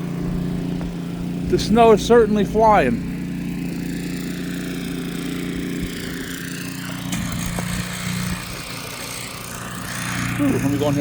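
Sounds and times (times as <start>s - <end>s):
small petrol engine running: 0.0s - 11.0s.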